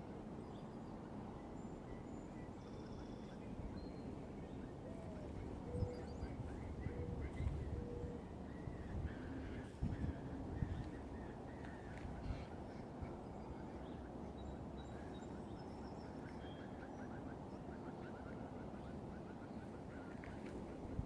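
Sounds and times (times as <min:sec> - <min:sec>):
low background hiss: 0:00.0 - 0:21.0
birds calling: 0:02.0 - 0:20.5.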